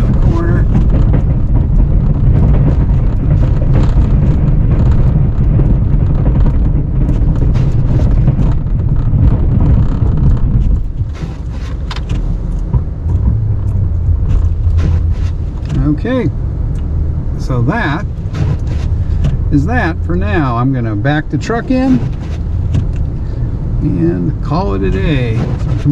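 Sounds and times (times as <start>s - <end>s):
knocks and clunks: 0.0s - 25.9s
plow truck engine rumbling: 0.0s - 25.9s.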